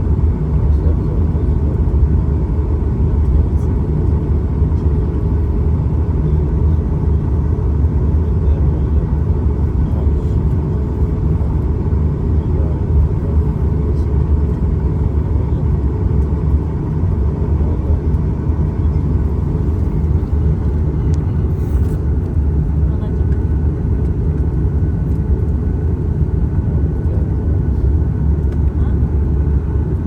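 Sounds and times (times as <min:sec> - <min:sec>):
jet engine cabin rumble: 0:00.0 - 0:30.0.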